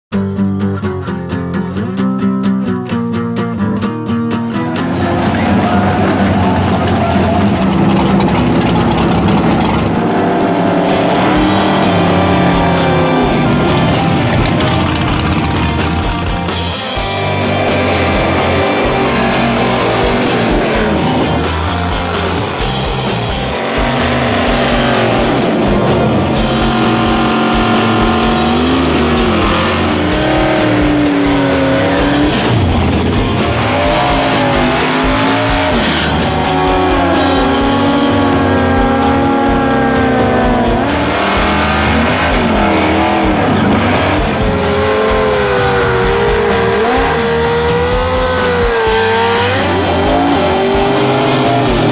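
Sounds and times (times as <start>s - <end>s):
rock music with guitar: 0.1s - 51.9s
race car and motorcycle engines: 4.4s - 51.9s
tyres spinning in burnouts: 4.6s - 51.9s.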